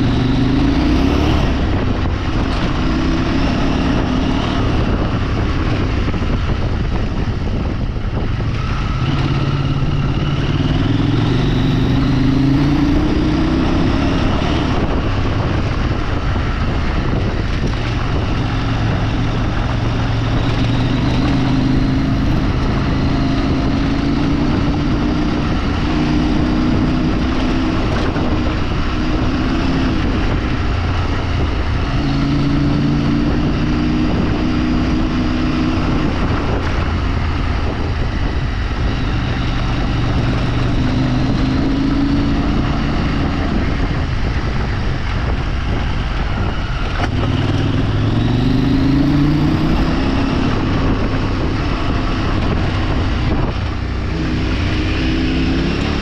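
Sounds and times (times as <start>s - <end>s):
road and wind noise: 0.0s - 56.0s
vehicle engine revving: 0.0s - 56.0s.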